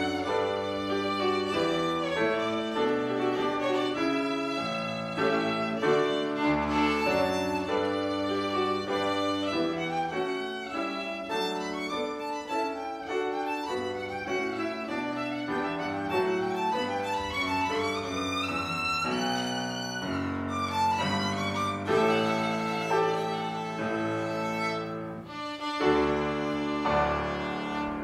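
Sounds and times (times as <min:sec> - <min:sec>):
piano accompaniment: 0:00.0 - 0:28.0
violin playing a minuet: 0:00.0 - 0:28.0.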